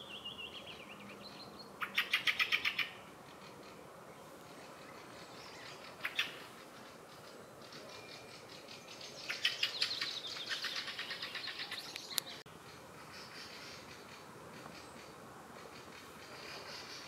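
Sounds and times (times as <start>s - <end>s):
songbird chattering: 0.0s - 17.0s.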